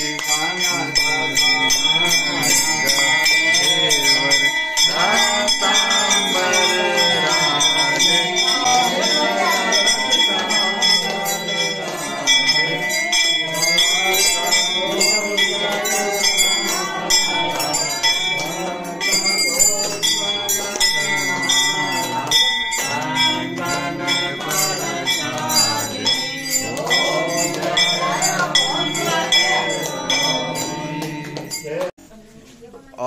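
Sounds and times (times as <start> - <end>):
hands clapping: 0.0 - 4.3, 4.9 - 32.0
brass bell ringing: 0.0 - 31.9
women singing a hymn: 0.0 - 32.7.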